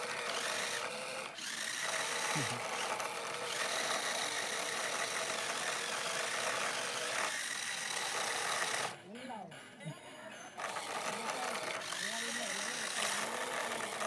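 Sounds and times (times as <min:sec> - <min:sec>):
toy car electric motor whine: 0:00.0 - 0:14.0.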